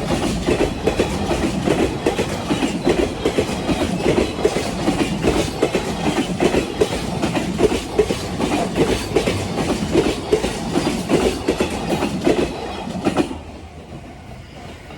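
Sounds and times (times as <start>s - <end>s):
train wheels clacking over rail joints: 0.0s - 14.9s.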